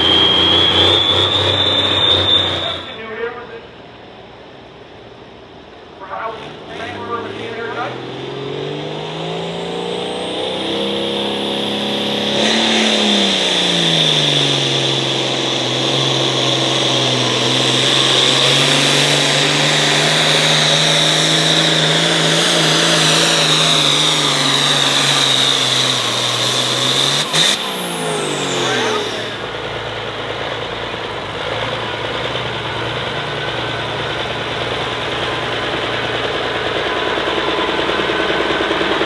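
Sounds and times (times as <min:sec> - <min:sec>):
diesel tractor engine at full throttle: 0:00.0 - 0:39.0
high whine: 0:00.0 - 0:39.0.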